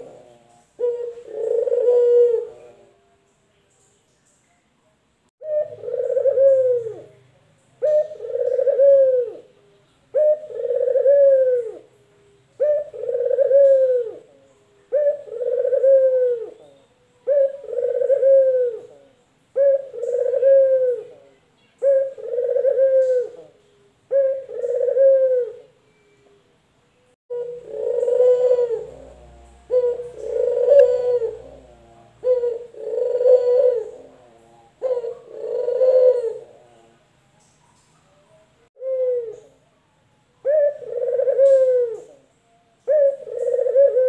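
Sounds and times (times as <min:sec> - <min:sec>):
dove cooing: 0:00.0 - 0:03.0, 0:05.4 - 0:07.2, 0:07.8 - 0:26.2, 0:27.3 - 0:37.0, 0:38.8 - 0:39.6, 0:40.4 - 0:44.0.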